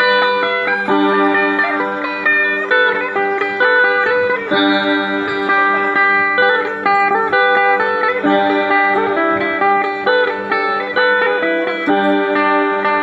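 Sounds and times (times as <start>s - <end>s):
plucked lute melody: 0.0s - 13.0s.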